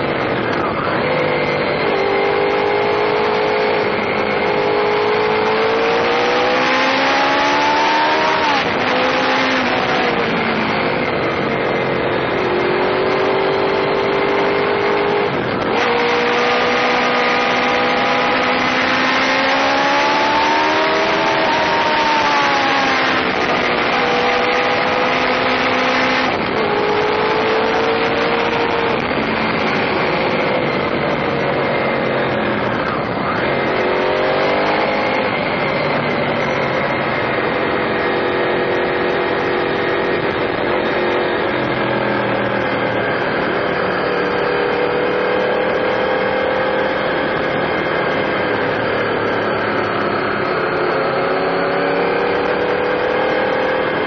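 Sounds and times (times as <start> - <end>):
motorcycle engine under way: 0.0 - 54.0
wind rushing over microphone: 0.0 - 54.0.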